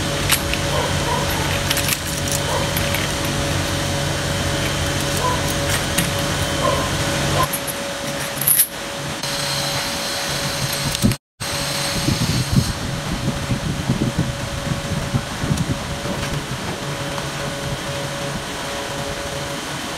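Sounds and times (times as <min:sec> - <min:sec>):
machine humming: 0:00.0 - 0:19.9.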